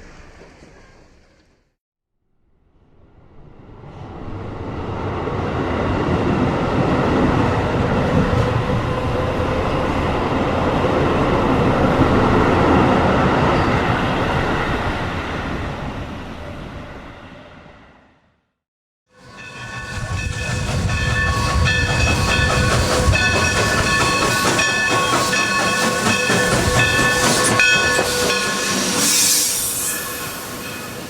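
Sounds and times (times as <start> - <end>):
train rumbling past: 0.0 - 1.7, 2.7 - 18.2, 19.1 - 31.0.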